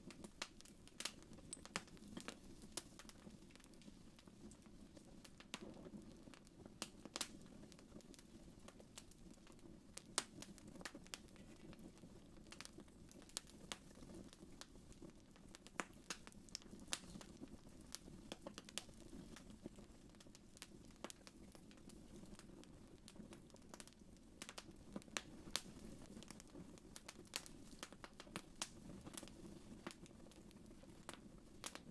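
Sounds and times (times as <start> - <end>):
low rumble of flames: 0.0 - 31.9
wood fire crackling and popping: 0.0 - 31.9.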